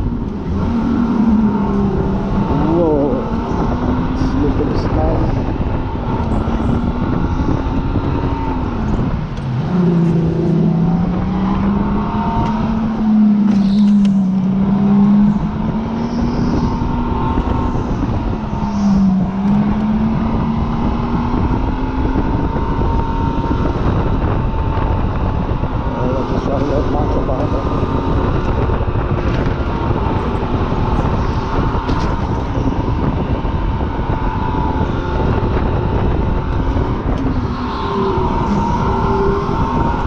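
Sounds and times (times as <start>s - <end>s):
car engine running hard: 0.0s - 40.0s
wind and road noise: 0.0s - 40.0s.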